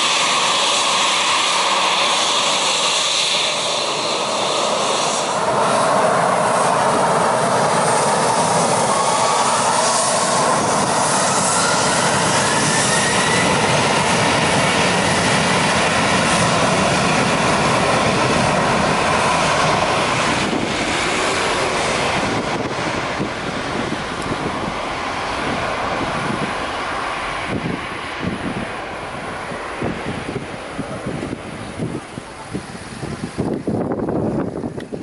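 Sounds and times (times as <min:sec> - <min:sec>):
rising engine whine: 0:00.0 - 0:34.9
jet engines at takeoff: 0:00.0 - 0:35.0.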